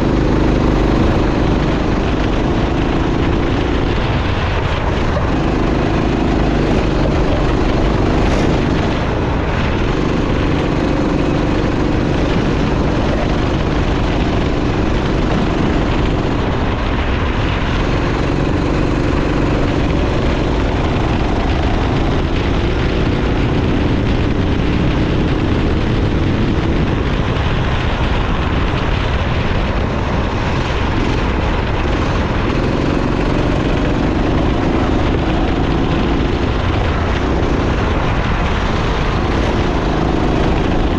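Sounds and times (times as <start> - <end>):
racing kart engine running hard: 0.0 - 40.9
steady wash of noise: 0.0 - 40.9.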